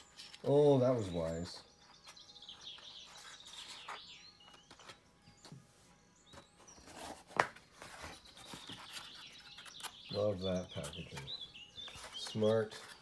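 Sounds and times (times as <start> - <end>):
cardboard rustling and scraping: 0.0 - 5.7, 6.3 - 13.0
small birds chirping: 0.0 - 13.0.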